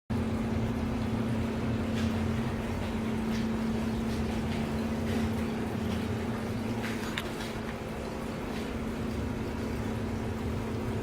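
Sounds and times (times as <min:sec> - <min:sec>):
motor humming: 0:00.1 - 0:11.0.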